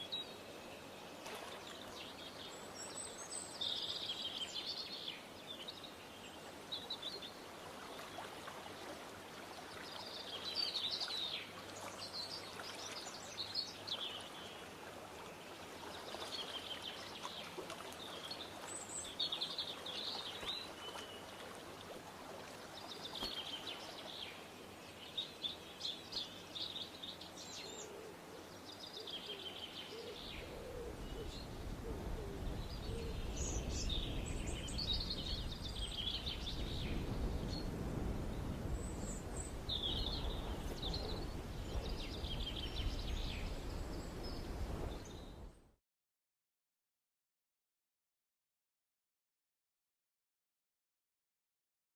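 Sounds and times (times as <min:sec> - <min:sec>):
background hiss: 0:00.0 - 0:45.4
songbird chirping: 0:00.0 - 0:45.7.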